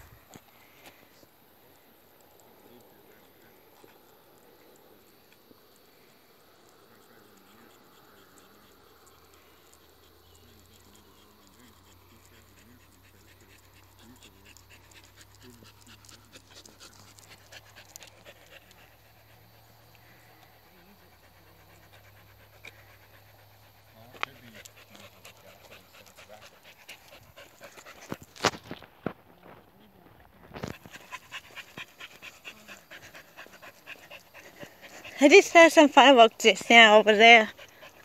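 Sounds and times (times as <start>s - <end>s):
dog panting: 2.4s - 28.9s, 29.7s - 38.0s.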